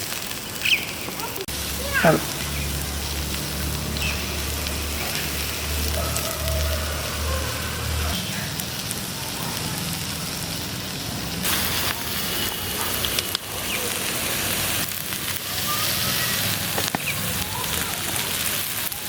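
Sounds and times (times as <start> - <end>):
fish sizzling: 0.0 - 19.0.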